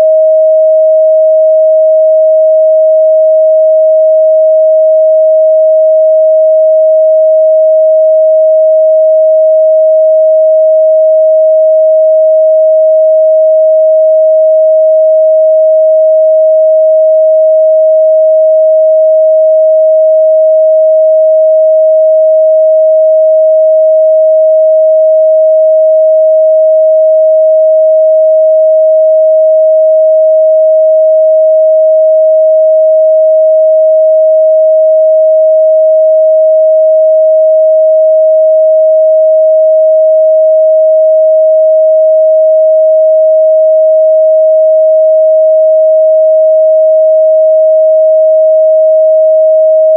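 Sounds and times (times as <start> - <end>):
sine-wave test tone: 0.0 - 49.9.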